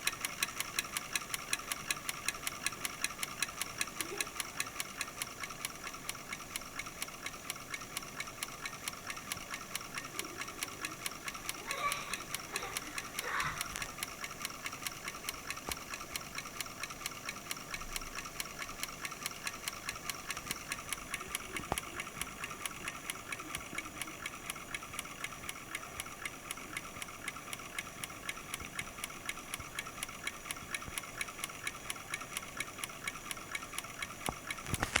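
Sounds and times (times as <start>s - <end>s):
vacuum cleaner motor ticking: 0.0s - 35.0s.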